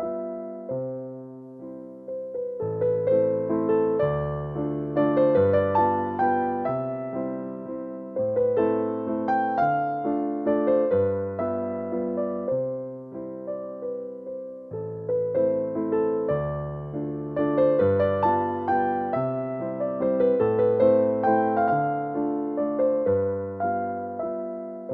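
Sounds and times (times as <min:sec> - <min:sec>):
gentle piano music: 0:00.0 - 0:24.9.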